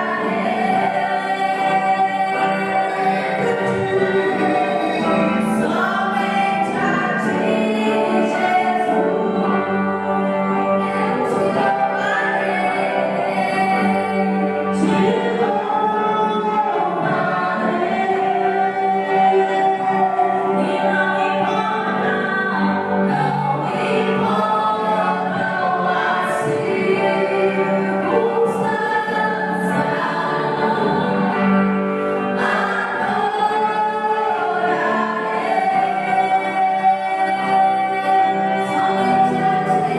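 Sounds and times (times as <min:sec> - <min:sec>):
choir singing gospel music: 0:00.0 - 0:39.9.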